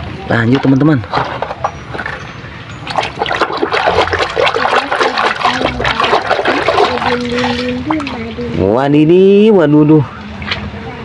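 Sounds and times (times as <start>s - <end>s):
water splashing and trickling: 0.4s - 11.0s.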